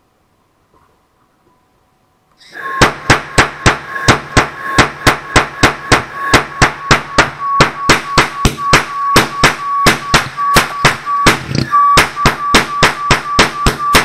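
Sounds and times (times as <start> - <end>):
noise cannon sharp bangs: 2.8 - 14.0.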